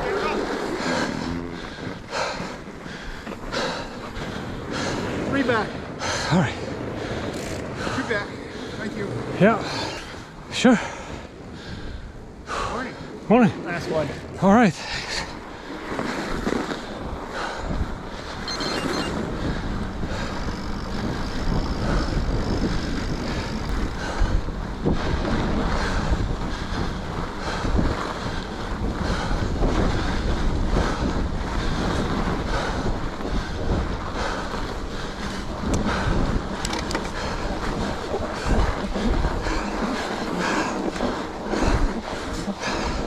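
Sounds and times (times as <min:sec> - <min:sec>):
bike tyres rolling on snow: 0:00.0 - 0:43.0
wind rushing over microphone: 0:00.0 - 0:43.0.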